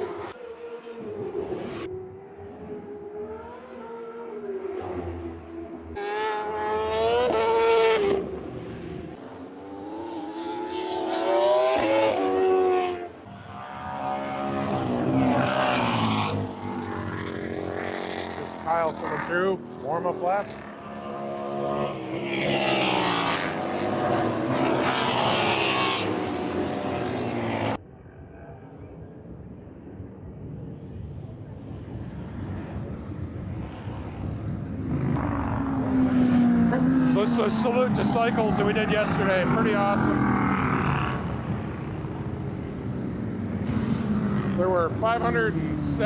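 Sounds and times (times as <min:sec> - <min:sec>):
racing motorcycles passing: 0:00.0 - 0:27.8, 0:30.8 - 0:46.0.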